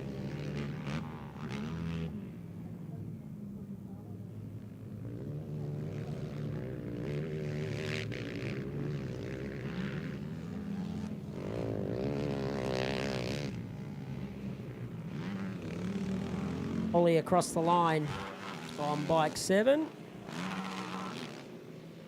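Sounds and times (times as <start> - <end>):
quad bike engines revving: 0.0 - 22.0.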